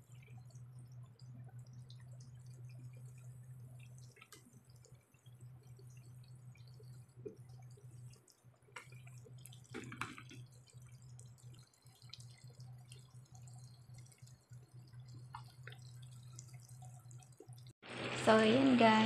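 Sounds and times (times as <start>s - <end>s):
shrimp deep-frying in oil: 0.0s - 19.0s.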